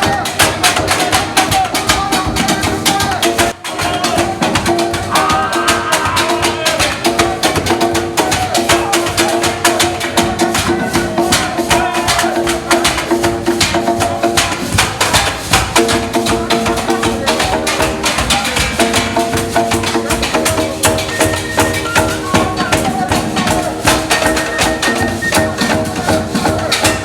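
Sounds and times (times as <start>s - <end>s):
music with wooden percussion strikes: 0.0s - 27.0s.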